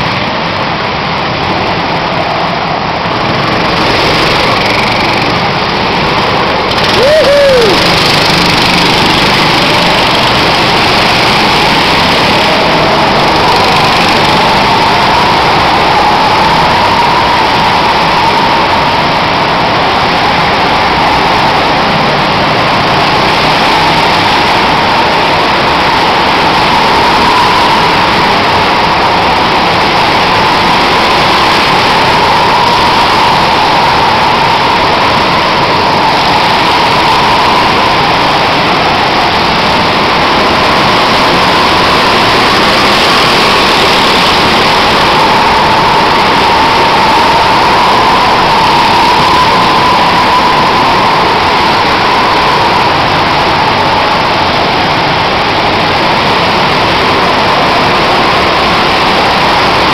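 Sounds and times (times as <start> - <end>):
go-kart engines racing: 0.0 - 59.9.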